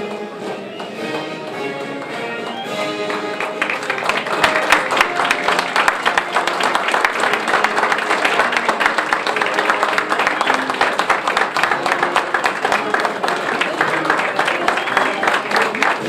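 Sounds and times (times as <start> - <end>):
crowd applauding: 0.0 - 16.0
music: 0.0 - 16.0.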